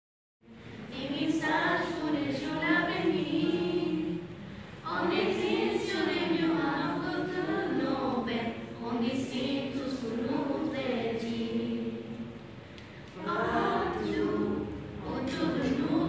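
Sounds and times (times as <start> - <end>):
children's choir singing: 0.7 - 12.5, 13.1 - 16.0.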